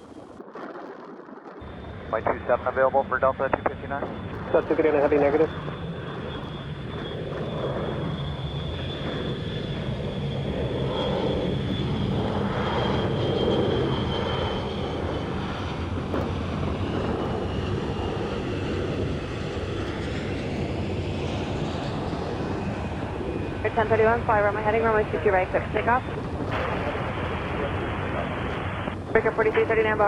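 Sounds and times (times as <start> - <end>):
jet engines roaring: 0.0 - 30.0
high engine whine: 1.6 - 30.0.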